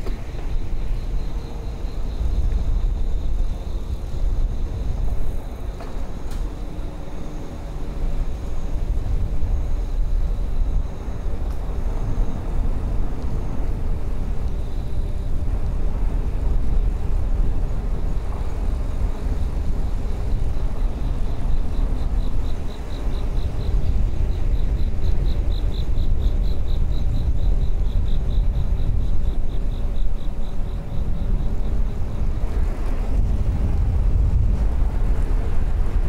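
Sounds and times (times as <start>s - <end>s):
bicycle tyre rumble on road: 0.0s - 36.0s
wind buffeting microphone: 0.0s - 36.0s.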